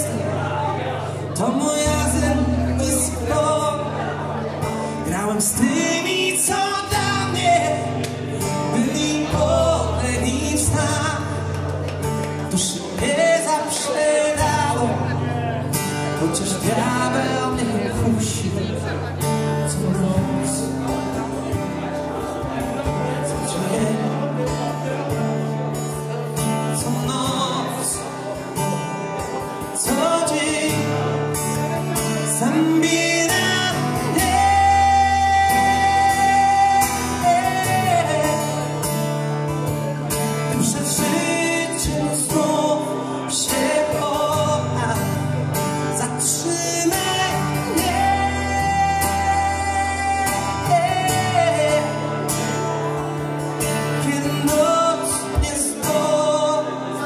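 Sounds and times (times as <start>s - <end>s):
man singing live: 0.0s - 57.0s
strummed acoustic guitar: 0.0s - 57.0s.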